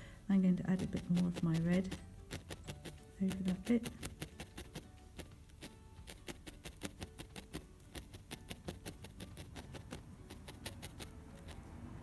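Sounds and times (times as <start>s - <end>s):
felting needle clicking: 0.5s - 11.7s.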